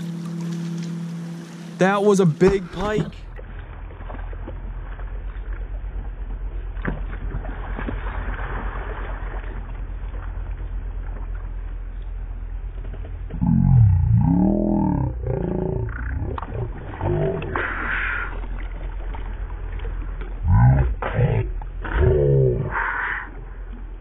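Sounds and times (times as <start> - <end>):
low rumble of wind and water: 0.0 - 24.0.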